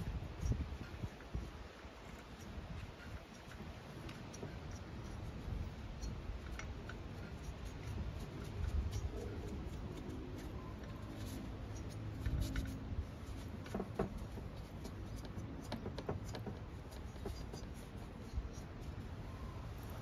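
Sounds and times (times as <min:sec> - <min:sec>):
towel rubbing on engine: 0:00.0 - 0:20.0.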